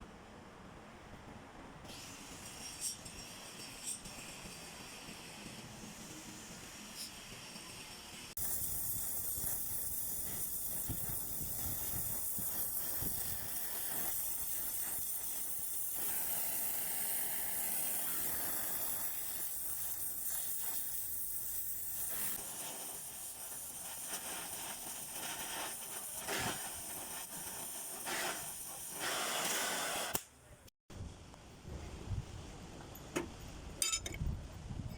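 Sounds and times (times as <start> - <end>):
gas torch flame hissing: 1.9 - 30.3.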